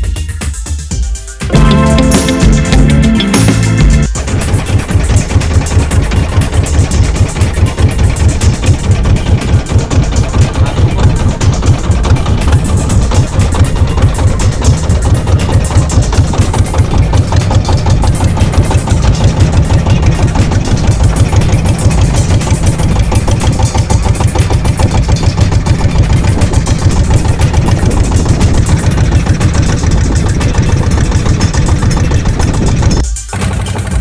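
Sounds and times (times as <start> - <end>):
boat engine pulsing: 1.5 - 34.0.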